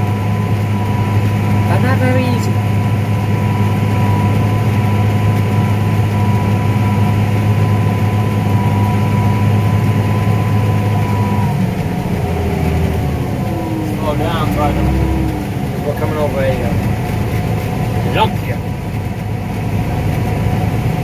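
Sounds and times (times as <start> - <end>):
combine harvester engine drone: 0.0 - 21.0
high whine: 0.0 - 21.0.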